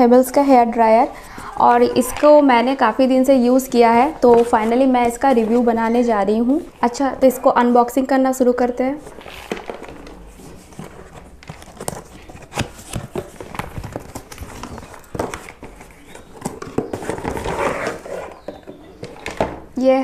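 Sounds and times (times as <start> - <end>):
packaging rustling: 1.0 - 6.8, 9.0 - 19.5.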